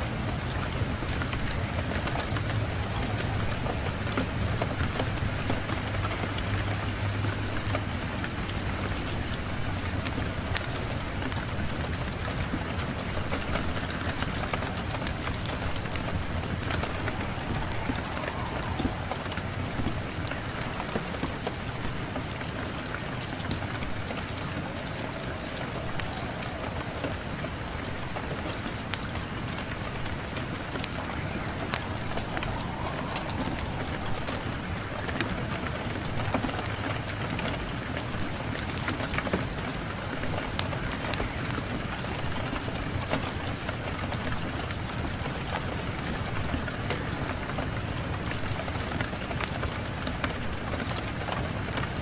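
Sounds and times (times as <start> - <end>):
steady hiss: 0.0 - 51.9
low rumble of wind: 0.0 - 52.0
wood fire crackling: 0.0 - 52.0.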